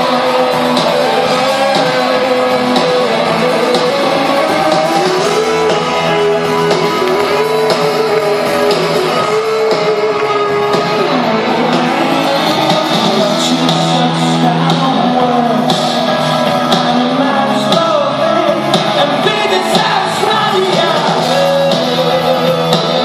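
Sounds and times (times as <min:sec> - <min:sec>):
electric guitar melody: 0:00.0 - 0:23.0
live rock band playing: 0:00.0 - 0:23.0.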